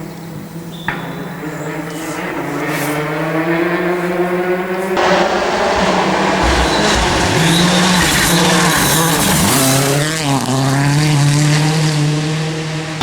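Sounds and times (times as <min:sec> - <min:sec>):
rally car engine revving high: 0:00.0 - 0:13.0
tyre noise: 0:00.0 - 0:13.0.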